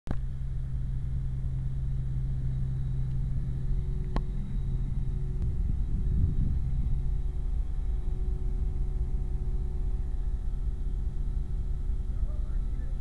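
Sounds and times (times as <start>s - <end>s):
low hum: 0.1s - 13.0s
train machinery rumble: 0.1s - 13.0s.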